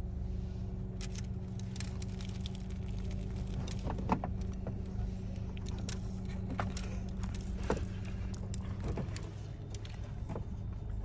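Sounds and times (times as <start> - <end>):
steady low hum: 0.0 - 11.0
light clicks and rattles: 1.0 - 10.5.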